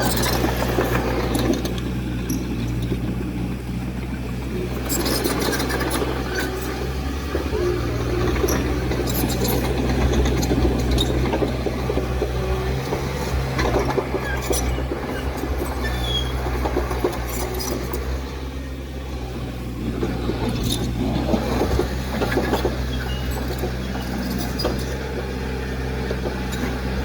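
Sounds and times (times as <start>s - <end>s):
heavy diesel engine under load: 0.0s - 27.0s.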